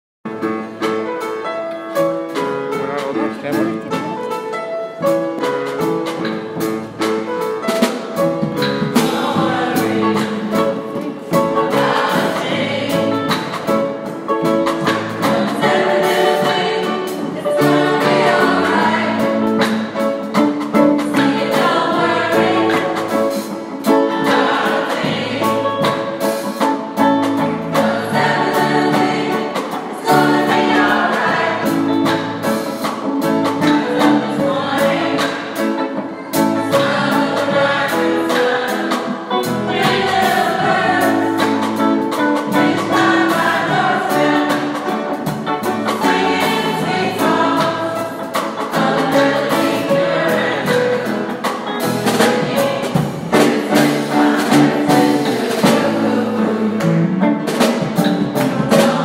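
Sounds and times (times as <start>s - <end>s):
gospel choir singing: 5.5s - 59.0s.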